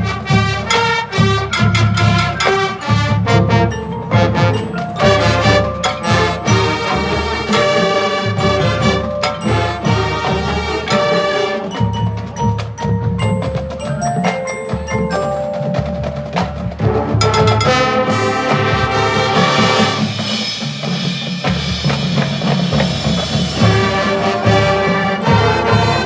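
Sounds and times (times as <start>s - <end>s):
mallet percussion notes: 0.0s - 26.0s
marching drums: 0.0s - 26.0s.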